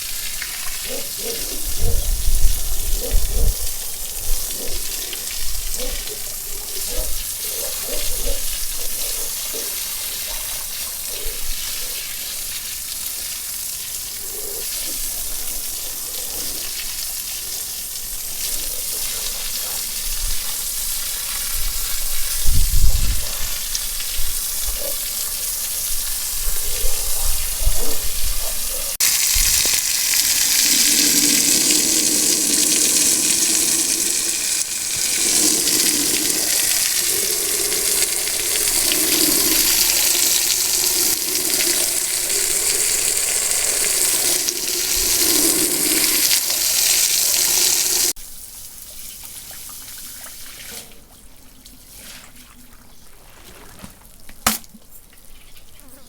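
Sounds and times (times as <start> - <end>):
water running: 0.0 - 26.8, 27.4 - 48.2.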